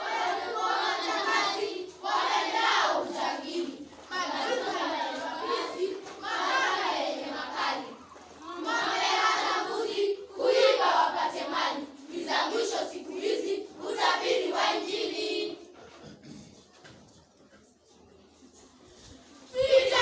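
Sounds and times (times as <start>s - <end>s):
children singing in unison: 0.0s - 16.2s, 19.4s - 20.0s.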